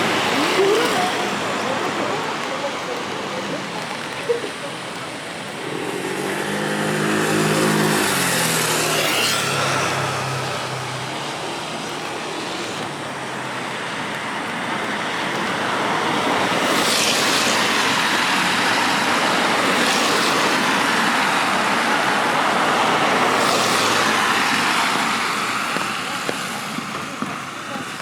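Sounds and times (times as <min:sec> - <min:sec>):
falling rain: 0:00.0 - 0:28.0
tyre hiss on wet road: 0:00.0 - 0:28.0.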